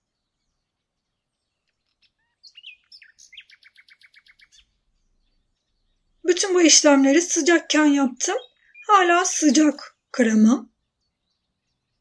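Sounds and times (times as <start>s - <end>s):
bird chirping and trilling: 0.2s - 12.0s.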